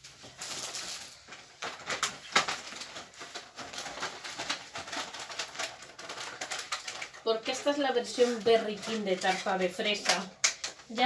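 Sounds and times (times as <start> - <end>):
rustling of handled objects: 0.0 - 11.0.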